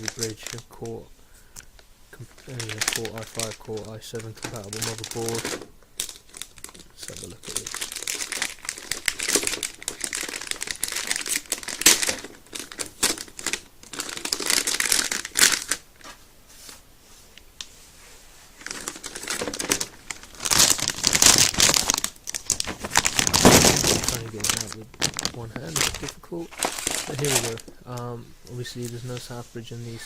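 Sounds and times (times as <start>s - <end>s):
packaging crinkling and rustling: 0.0s - 16.8s, 18.5s - 29.4s.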